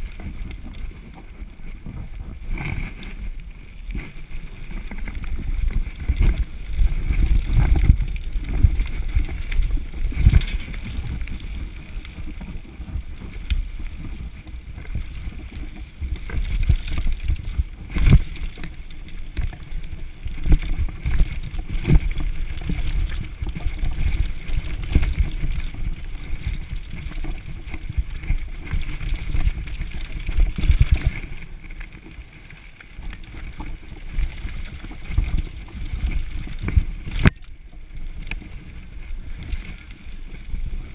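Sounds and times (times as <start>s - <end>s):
bike rattling over bumps: 0.0s - 40.9s
bike tyre noise: 0.0s - 40.9s
wind rumble on microphone: 0.0s - 40.9s.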